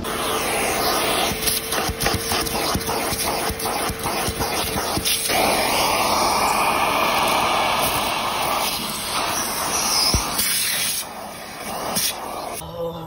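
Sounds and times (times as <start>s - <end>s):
vacuum cleaner running: 0.0s - 12.6s.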